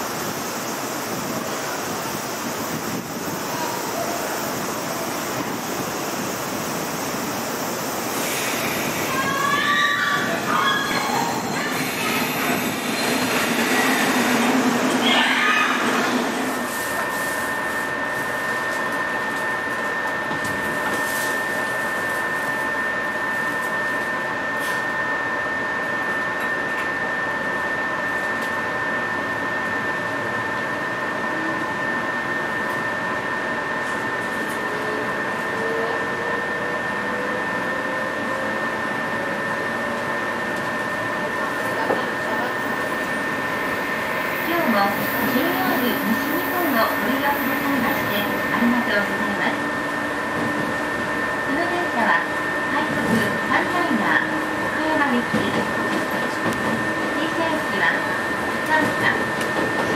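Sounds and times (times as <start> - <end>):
train cabin noise: 0.0 - 59.9.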